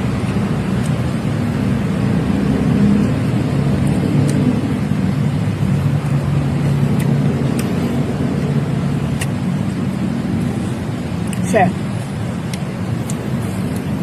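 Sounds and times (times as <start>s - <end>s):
road noise: 0.0s - 14.0s
vehicle engine running: 0.0s - 14.0s.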